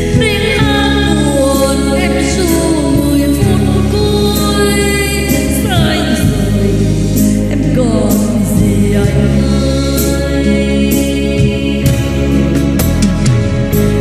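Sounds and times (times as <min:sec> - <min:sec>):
woman singing into a microphone: 0:00.0 - 0:12.8
slow ballad backing track: 0:00.0 - 0:14.0.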